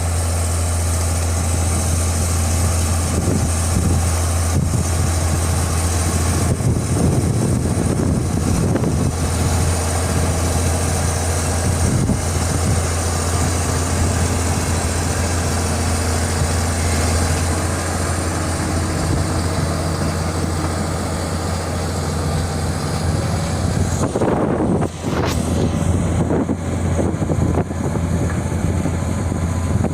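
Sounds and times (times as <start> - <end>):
heavy machine engine running: 0.0 - 29.9.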